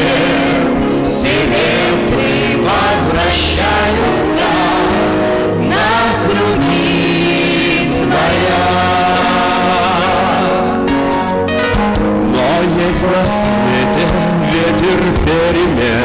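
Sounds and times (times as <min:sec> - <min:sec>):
person singing: 0:00.0 - 0:11.5, 0:12.2 - 0:16.0
instrumental accompaniment: 0:00.0 - 0:16.0.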